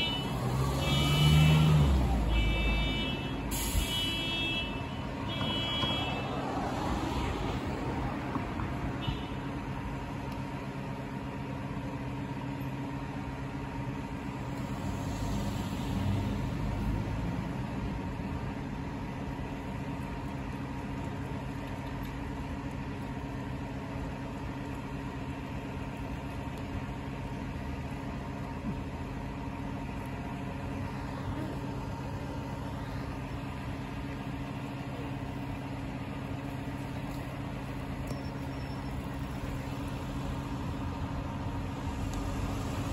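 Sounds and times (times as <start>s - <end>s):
bus engine idling: 0.0s - 42.9s.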